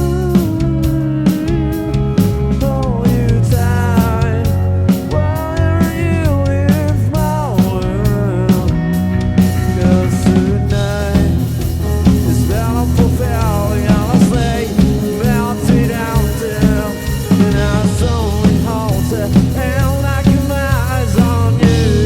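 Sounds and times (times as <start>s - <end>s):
bass: 0.0s - 22.0s
drum kit beat: 0.0s - 22.0s
rock band playing live: 0.0s - 22.0s.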